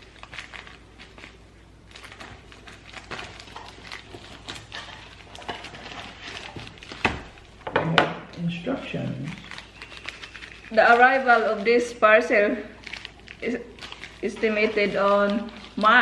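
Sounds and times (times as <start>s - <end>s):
plastic package crinkling: 0.0s - 7.6s, 8.8s - 16.0s.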